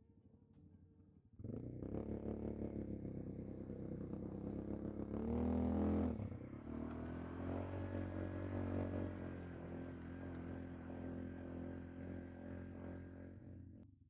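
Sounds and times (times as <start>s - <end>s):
atv engine revving: 1.4s - 13.5s.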